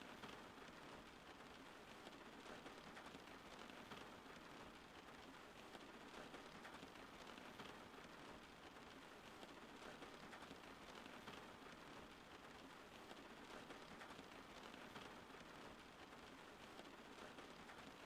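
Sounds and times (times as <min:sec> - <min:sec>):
faint steady rain: 0:00.0 - 0:18.0.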